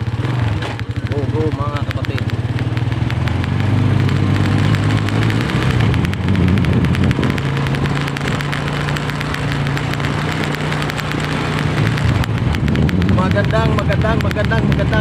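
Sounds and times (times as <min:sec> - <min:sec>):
motorcycle engine running: 0:00.0 - 0:15.0
rapid crackling ticks: 0:00.0 - 0:15.0.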